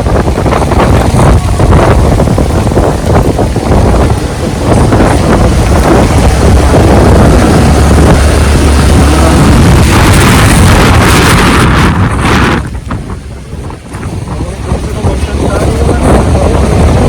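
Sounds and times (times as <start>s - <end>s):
storm wind blasting microphone: 0.0s - 17.0s.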